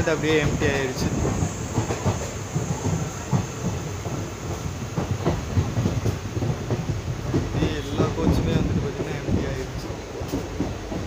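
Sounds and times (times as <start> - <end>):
train carriage rumble: 0.0 - 11.0
wheels clattering on track: 0.0 - 11.0.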